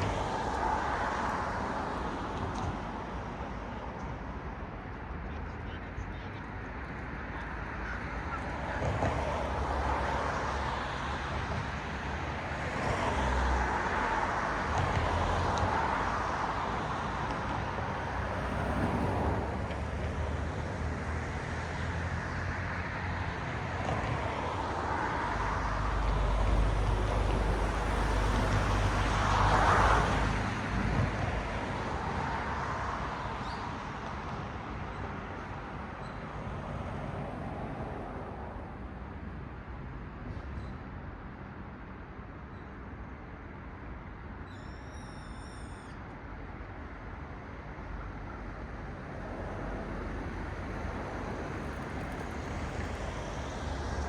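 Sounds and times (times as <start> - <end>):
cars passing on road: 0.0 - 44.4, 45.2 - 54.0
low traffic rumble: 0.0 - 44.4, 45.4 - 54.0.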